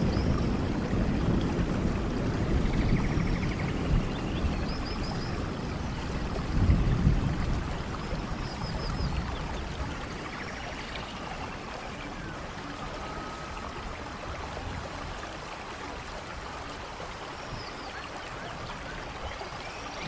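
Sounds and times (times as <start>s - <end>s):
steady rainfall: 0.0s - 20.0s.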